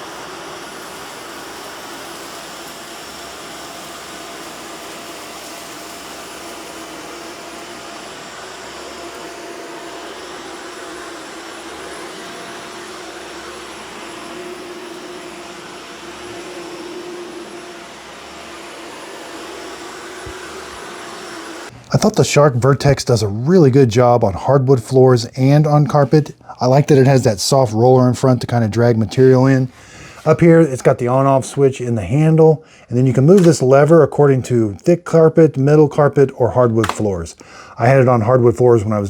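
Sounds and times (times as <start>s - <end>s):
vacuum cleaner running: 0.0s - 23.7s, 25.6s - 33.8s, 36.8s - 38.0s.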